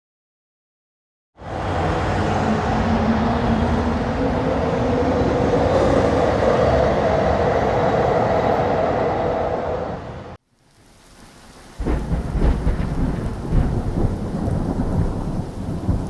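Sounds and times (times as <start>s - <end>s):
train rumbling on rails: 1.4s - 10.4s, 11.8s - 16.0s.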